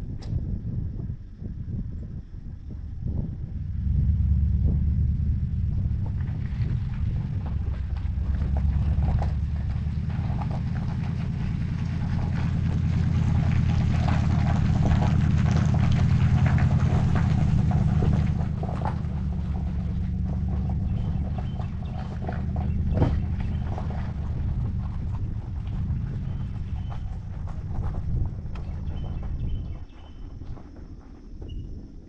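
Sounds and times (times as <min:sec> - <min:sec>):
engine low rumble: 0:00.0 - 0:32.0.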